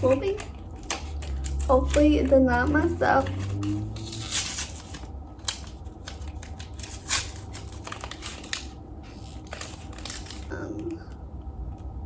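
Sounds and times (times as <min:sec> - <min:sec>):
packaging crinkling and scraping: 0:00.0 - 0:10.9.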